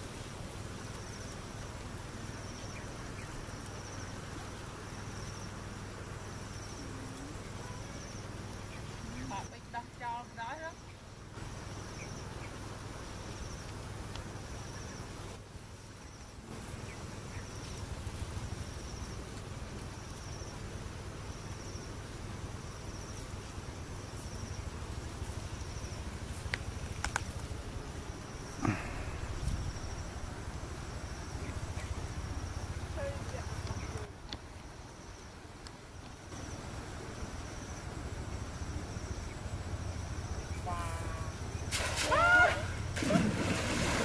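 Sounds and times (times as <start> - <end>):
insects calling: 0.0 - 44.0.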